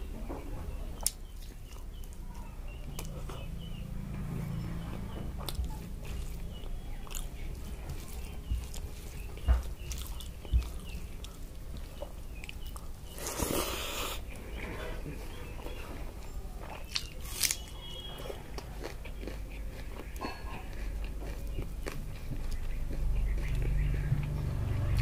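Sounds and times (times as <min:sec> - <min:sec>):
chewing and biting: 0:01.0 - 0:25.0.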